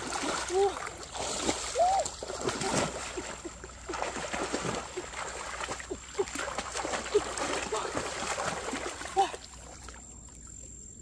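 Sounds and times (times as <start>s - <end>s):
water splashing and slapping: 0.0s - 10.5s.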